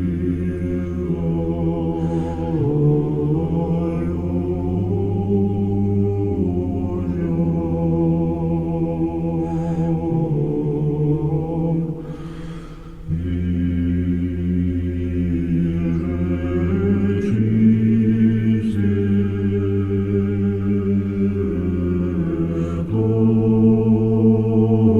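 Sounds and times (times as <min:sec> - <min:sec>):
choir singing chant: 0:00.0 - 0:24.9.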